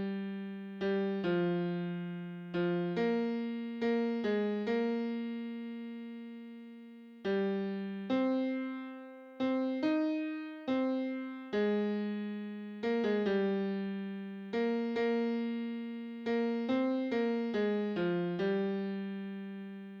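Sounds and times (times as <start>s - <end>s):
piano-toned keyboard notes: 0.0s - 6.4s, 7.2s - 19.6s.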